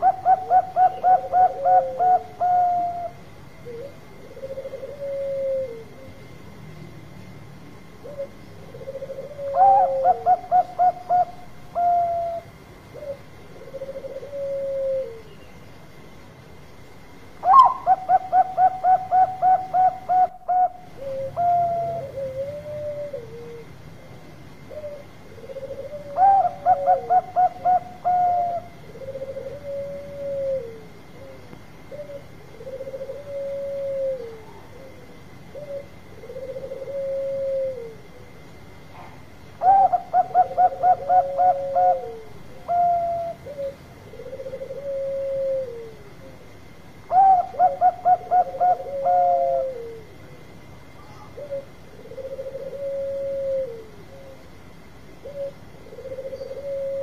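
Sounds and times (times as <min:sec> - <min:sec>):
dove cooing song: 0:00.0 - 0:06.3, 0:07.9 - 0:16.0, 0:17.2 - 0:57.0.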